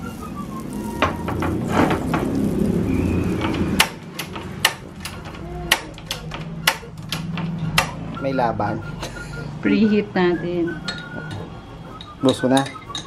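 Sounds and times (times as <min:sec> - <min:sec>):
rustling and scraping of kitchenware: 0:00.0 - 0:08.2, 0:10.7 - 0:13.0.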